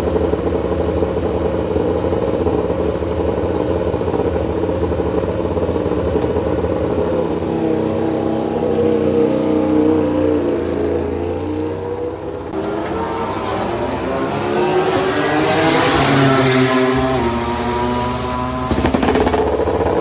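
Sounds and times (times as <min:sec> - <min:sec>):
motorcycle engine revving at idle: 0:00.0 - 0:12.6, 0:13.5 - 0:20.0.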